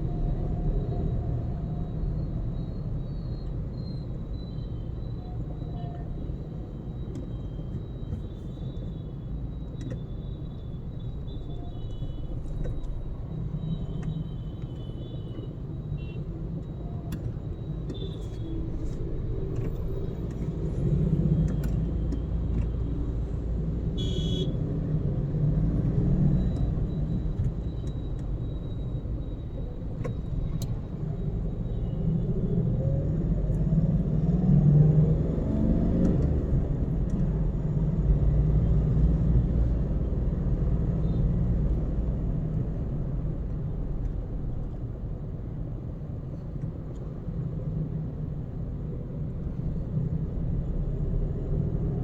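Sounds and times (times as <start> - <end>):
car engine and tyre rumble: 0.0 - 52.0.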